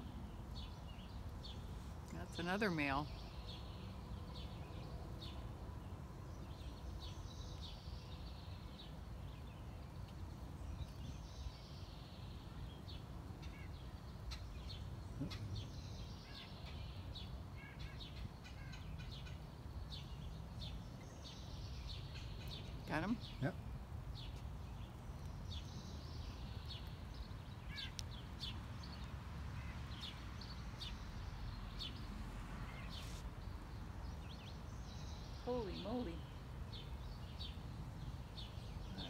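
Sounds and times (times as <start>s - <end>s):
low outdoor rumble: 0.0s - 39.0s
small birds chirping: 0.0s - 39.0s.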